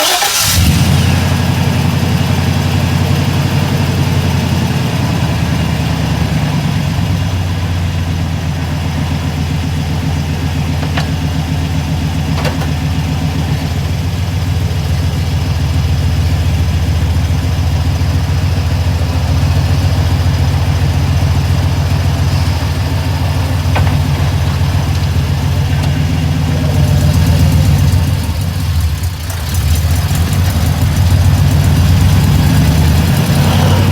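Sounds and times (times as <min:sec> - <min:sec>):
pickup engine idling: 0:00.0 - 0:33.9.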